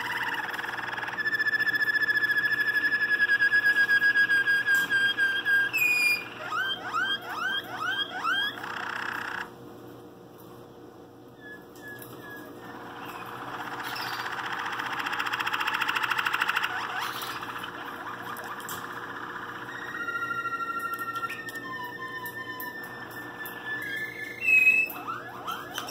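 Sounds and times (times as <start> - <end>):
canary singing: 0.0 - 9.6, 11.4 - 25.9.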